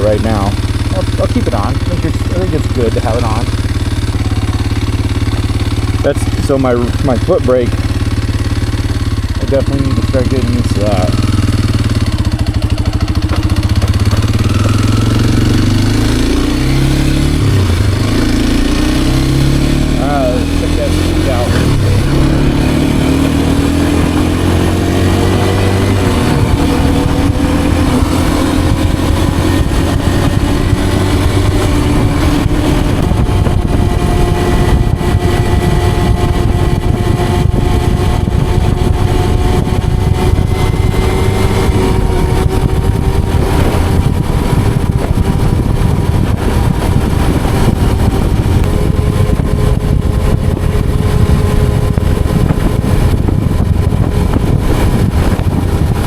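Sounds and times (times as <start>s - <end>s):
dirt bike engine at speed: 0.0s - 56.0s
wind rumble on microphone: 0.0s - 56.0s.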